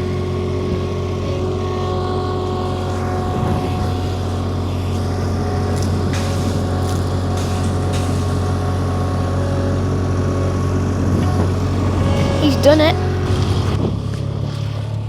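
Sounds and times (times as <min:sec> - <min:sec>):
farm vehicle engine running: 0:00.0 - 0:15.0.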